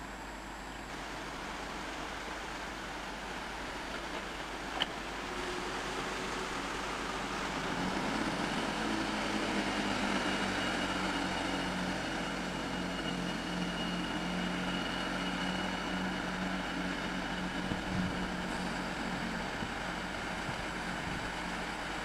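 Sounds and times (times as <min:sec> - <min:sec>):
diesel train engine hum: 0:00.0 - 0:22.0
faint high whine: 0:00.0 - 0:22.0.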